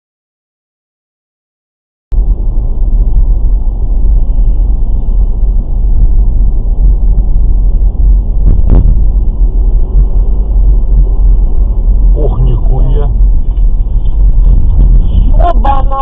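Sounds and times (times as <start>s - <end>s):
car driving rumble: 2.1s - 16.0s.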